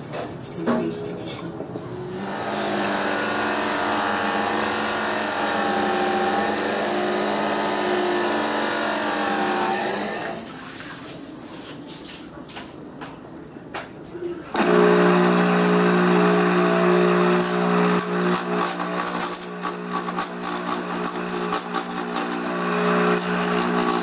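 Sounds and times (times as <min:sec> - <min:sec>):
bench grinder grinding knife: 0:00.0 - 0:10.5, 0:14.6 - 0:24.0.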